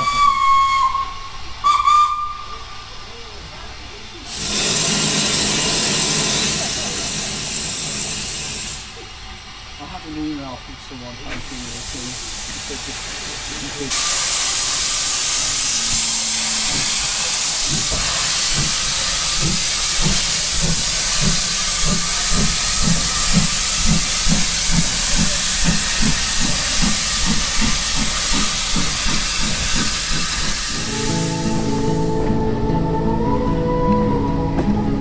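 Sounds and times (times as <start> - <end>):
steam hiss: 0.0 - 32.4
steam locomotive exhaust chuffs: 4.3 - 32.4.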